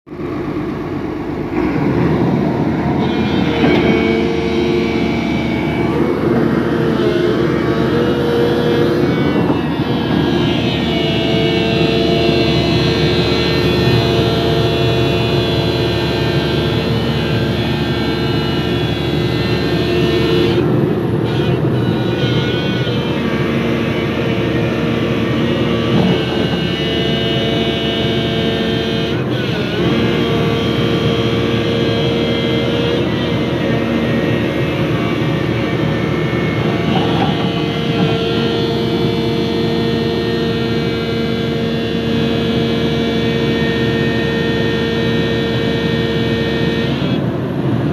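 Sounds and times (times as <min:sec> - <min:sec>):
excavator engine rumble: 0:00.1 - 0:47.9
hydraulic pump whine: 0:00.1 - 0:47.9.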